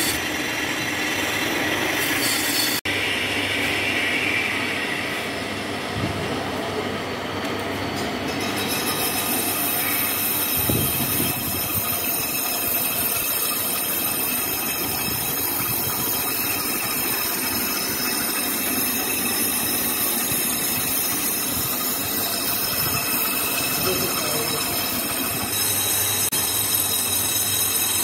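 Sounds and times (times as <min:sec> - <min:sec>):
lathe tool scraping metal: 0:00.0 - 0:02.9, 0:08.2 - 0:28.0
machine hum: 0:00.0 - 0:28.0.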